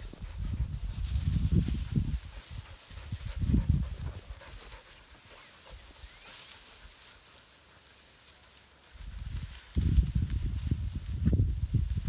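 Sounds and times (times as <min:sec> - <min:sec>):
dog rustling through dry grass: 0:00.0 - 0:12.0.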